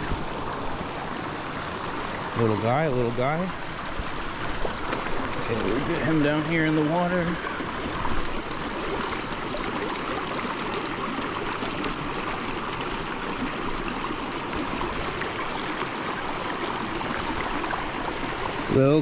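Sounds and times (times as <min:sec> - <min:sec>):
creek water flowing over stones: 0:00.0 - 0:19.0.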